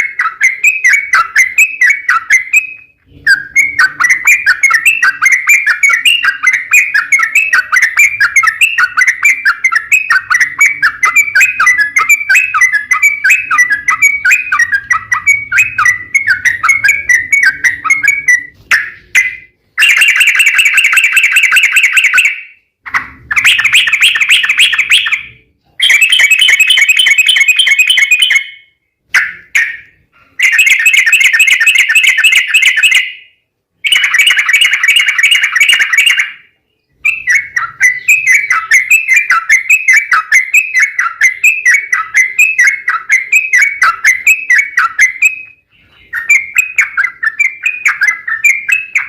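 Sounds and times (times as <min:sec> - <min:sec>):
bird singing chattering phrases: 0:00.0 - 0:33.2, 0:33.8 - 0:49.0.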